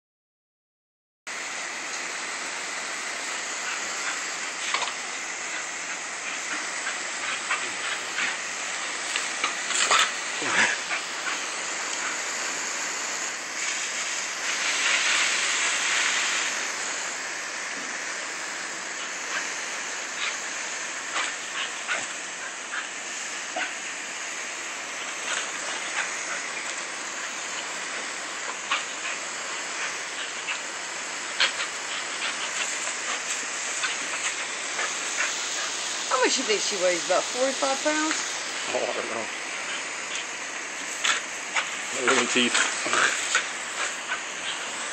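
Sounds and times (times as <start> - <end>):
garden hose spraying: 1.3 - 44.9.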